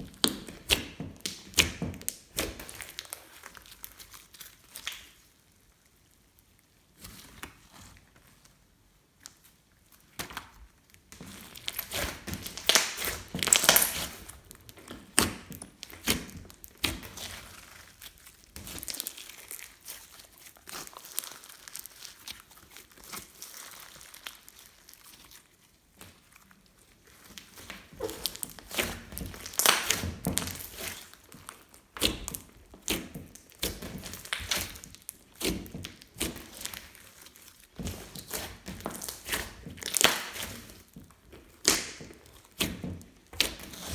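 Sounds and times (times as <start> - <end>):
slime squished by hand: 0.0 - 8.1, 9.1 - 43.9.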